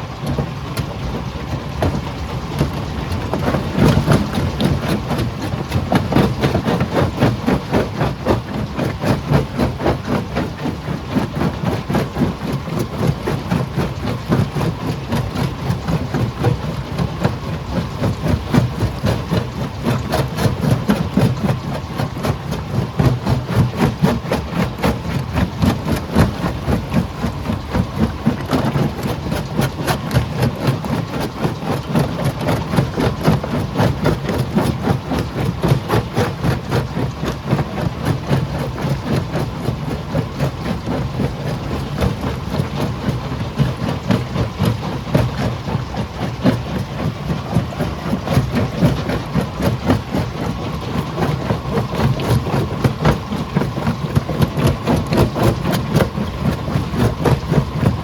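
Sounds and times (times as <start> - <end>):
rapid clatter of knocks: 0.0 - 58.0
rock crusher engine rumble: 0.0 - 58.0.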